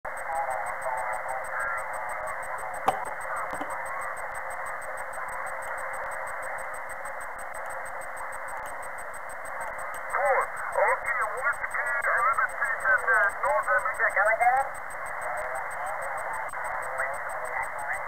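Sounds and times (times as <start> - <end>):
garbled radio voices: 0.1 - 6.9, 8.7 - 18.0
radio static hiss: 0.1 - 18.0.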